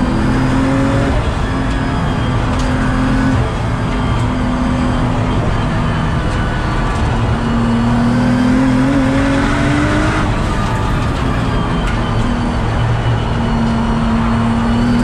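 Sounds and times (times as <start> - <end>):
car engine pulling hard: 0.0 - 15.0
road noise inside car cabin: 0.0 - 15.0.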